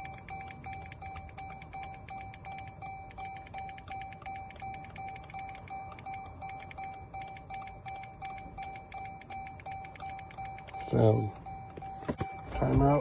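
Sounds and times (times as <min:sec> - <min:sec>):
electronic beeping: 0:00.0 - 0:13.0.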